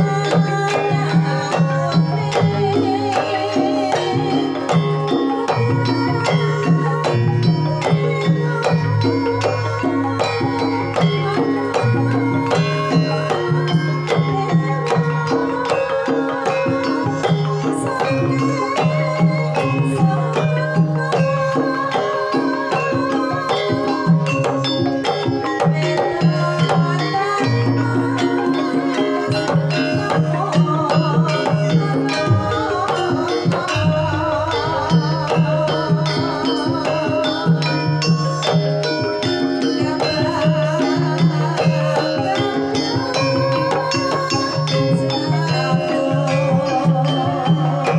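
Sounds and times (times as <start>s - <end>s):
hand drum strokes: 0.0s - 47.9s
metallophones and gongs ringing: 0.0s - 47.9s
wavering melodic line: 0.0s - 47.9s.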